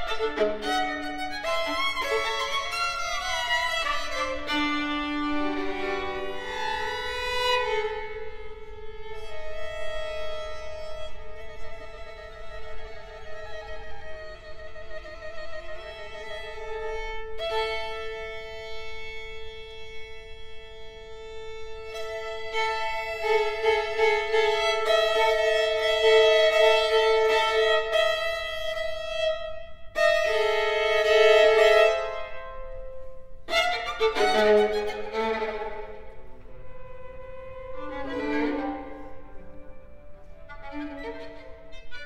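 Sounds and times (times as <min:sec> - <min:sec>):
string quartet bowed chords: 0:00.0 - 0:42.0.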